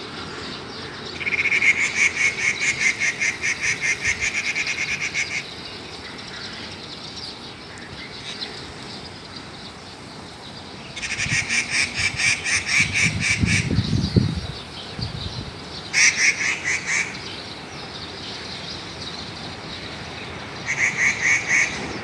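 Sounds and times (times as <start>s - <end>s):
birds shrill calls: 0.0s - 22.0s
soft bird calls: 0.0s - 22.0s.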